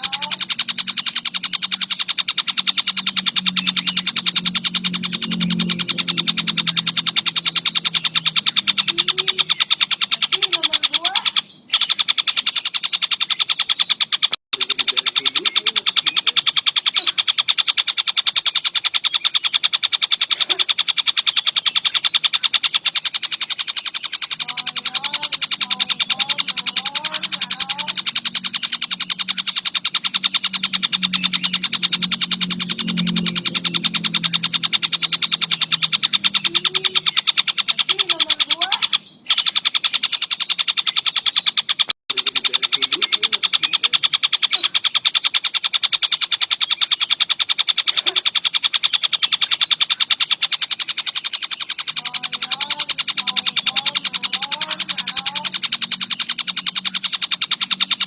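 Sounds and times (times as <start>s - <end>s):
kingfisher chattering: 0.0s - 58.0s.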